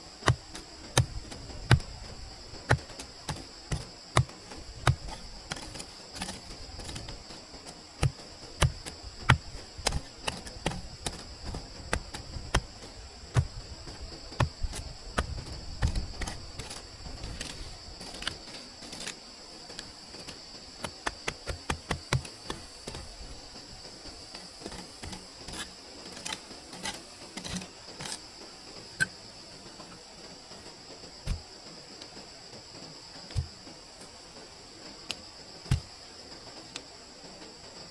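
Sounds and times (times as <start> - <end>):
steady high-pitched hiss: 0.0 - 37.9.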